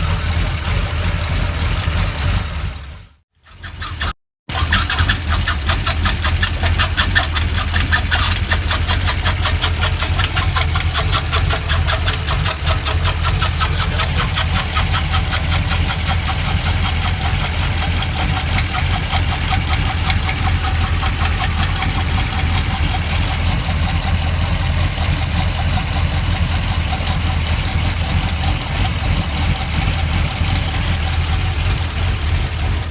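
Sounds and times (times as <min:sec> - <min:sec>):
car engine idling: 0:00.0 - 0:32.9
fast even engine ticking: 0:00.0 - 0:32.9.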